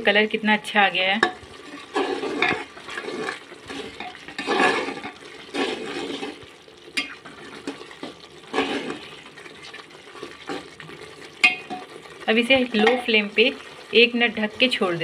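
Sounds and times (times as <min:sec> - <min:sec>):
metal ladle sloshing and scraping: 0:01.2 - 0:13.8.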